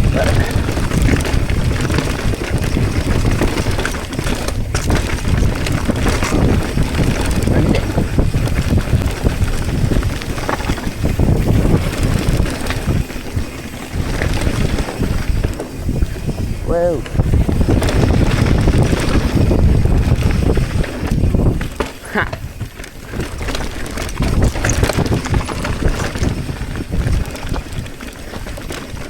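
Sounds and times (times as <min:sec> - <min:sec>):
bike knocks and rattles: 0:00.0 - 0:29.0
tyres rumbling on dirt: 0:00.0 - 0:29.0
wind buffeting microphone: 0:00.0 - 0:29.0.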